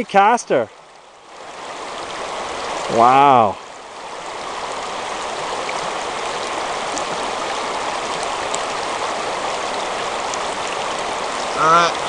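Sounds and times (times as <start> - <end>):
river water over stones: 0.0 - 12.0.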